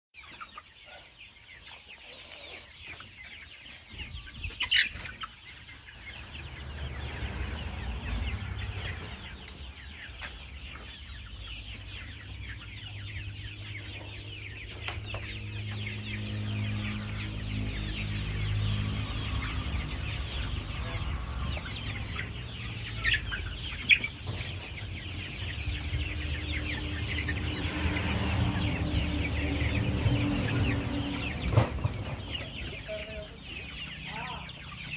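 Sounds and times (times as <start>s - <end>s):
chickens clucking: 0.2s - 34.9s.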